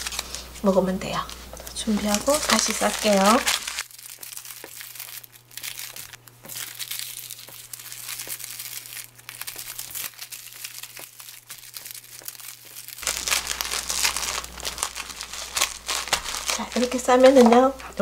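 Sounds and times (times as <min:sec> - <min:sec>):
plastic film wrapper crinkling: 0:00.0 - 0:18.0.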